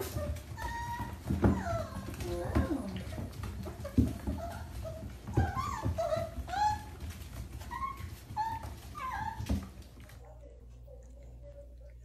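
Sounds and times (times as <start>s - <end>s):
puppies whimpering and yipping: 0.0s - 10.1s.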